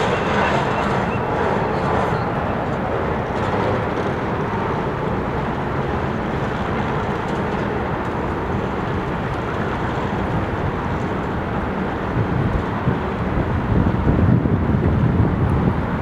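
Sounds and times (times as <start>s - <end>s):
urban traffic noise: 0.0s - 16.0s.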